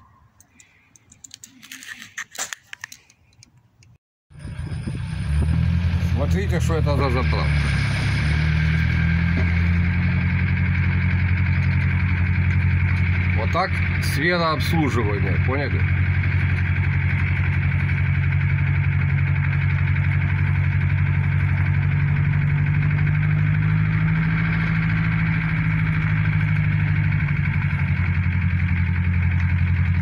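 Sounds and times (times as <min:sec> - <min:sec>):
motor idling: 0:04.4 - 0:30.0.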